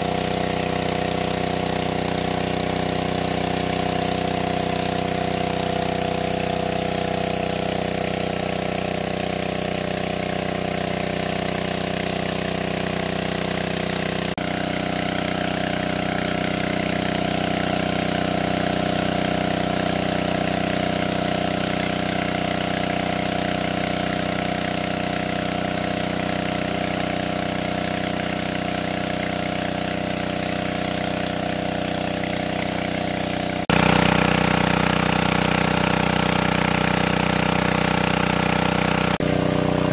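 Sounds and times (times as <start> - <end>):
petrol water pump running: 0.0 - 39.9.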